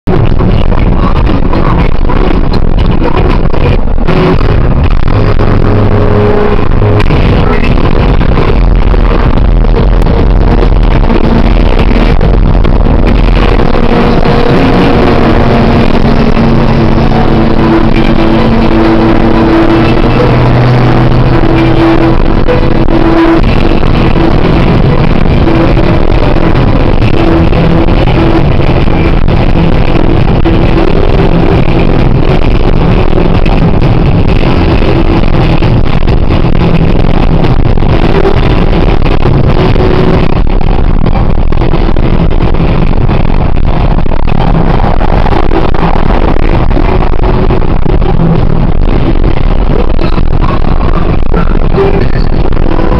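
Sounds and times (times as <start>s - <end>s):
car road and engine noise: 0.0s - 52.9s
music playing: 0.1s - 52.9s.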